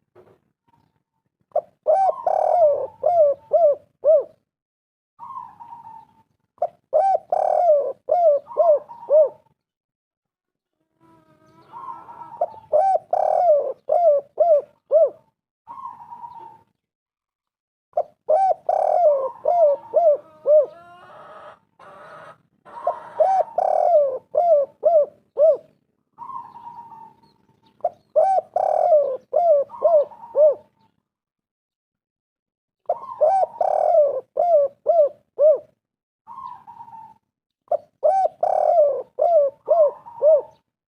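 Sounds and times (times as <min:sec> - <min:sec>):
dove cooing: 0:01.5 - 0:04.4, 0:05.2 - 0:09.5, 0:11.0 - 0:16.7, 0:18.0 - 0:30.9, 0:32.9 - 0:40.7.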